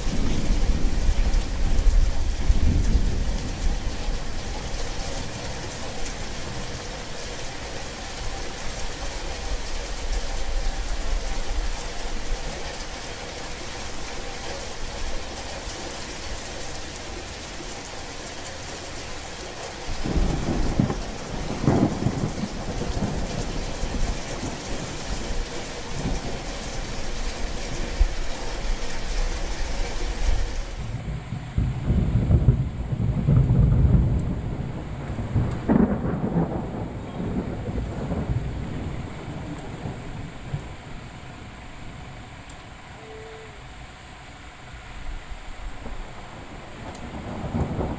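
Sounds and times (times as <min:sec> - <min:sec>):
low thunder rumble: 0:00.0 - 0:13.0, 0:19.8 - 0:42.5, 0:45.1 - 0:47.9
steady rain: 0:00.0 - 0:47.9.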